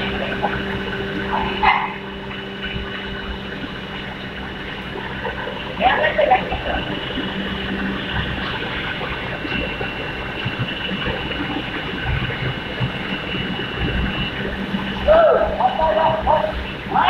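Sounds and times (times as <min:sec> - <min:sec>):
industrial rushing noise: 0:00.0 - 0:17.0
low hum: 0:00.0 - 0:17.0
thin high whine: 0:00.0 - 0:17.0.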